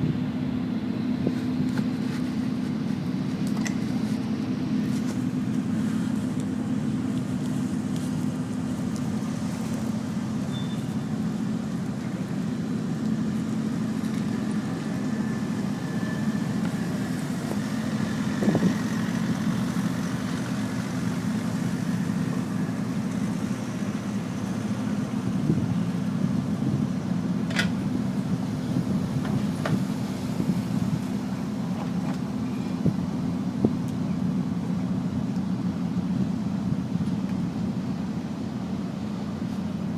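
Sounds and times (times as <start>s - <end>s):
low engine drone: 0.0s - 39.9s.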